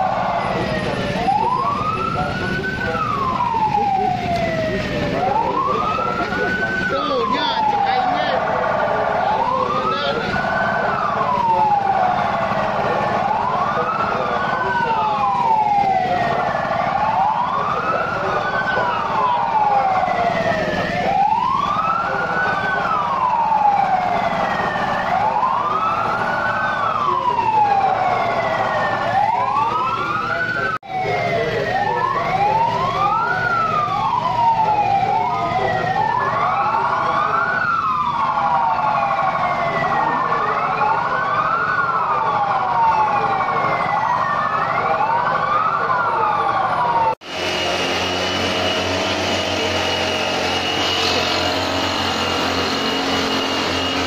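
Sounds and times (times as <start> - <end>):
siren wailing: 0.0 - 54.0.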